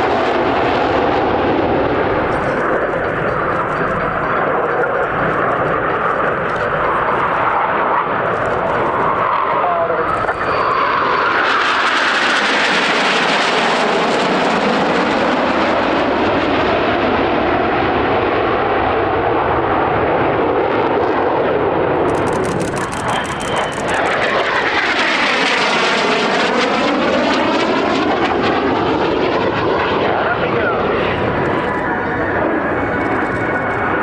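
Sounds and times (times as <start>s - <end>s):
aircraft engine noise: 0.0s - 17.0s, 19.4s - 34.0s.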